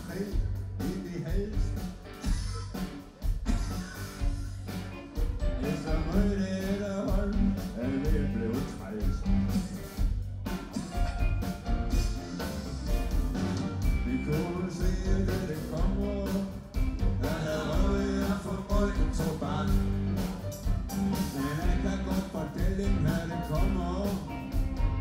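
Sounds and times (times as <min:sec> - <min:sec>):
blues-rock band playing: 0:00.0 - 0:25.0.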